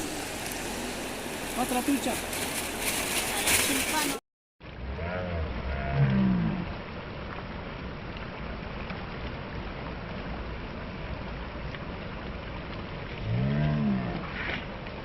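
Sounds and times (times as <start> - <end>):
river water rushing: 0.0 - 13.3.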